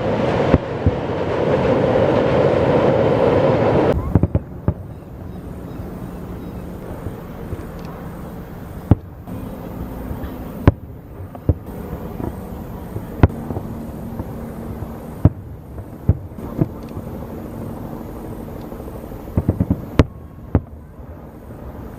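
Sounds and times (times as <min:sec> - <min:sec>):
fireworks bangs: 0:00.0 - 0:21.9
steady low hum: 0:00.0 - 0:21.9.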